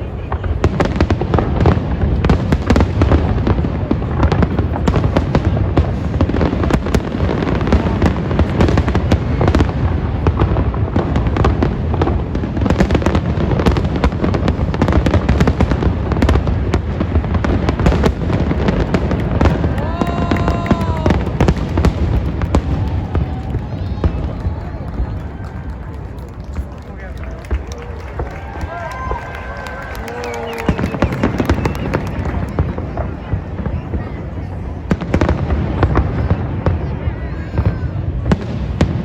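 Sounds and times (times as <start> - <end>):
fireworks booming and crackling: 0.0 - 39.0.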